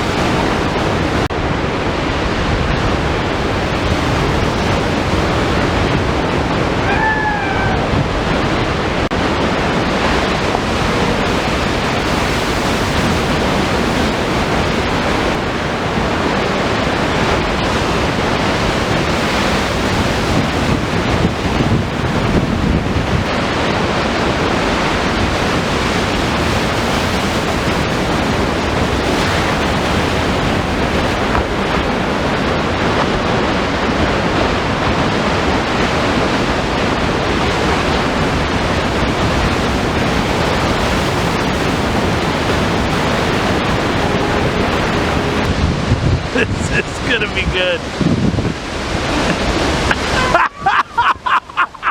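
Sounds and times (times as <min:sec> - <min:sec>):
waves crashing on rocks: 0:00.0 - 0:51.9
wind buffeting microphone: 0:00.0 - 0:51.9.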